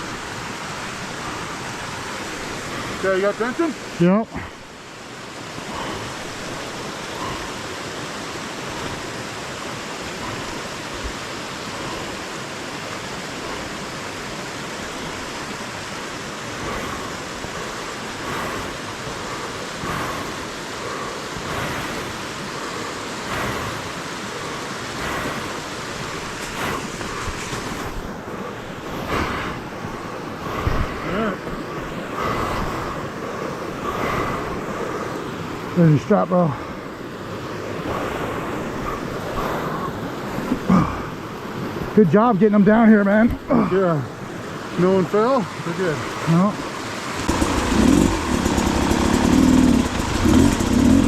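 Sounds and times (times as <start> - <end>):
creek water rushing: 0.0 - 51.0.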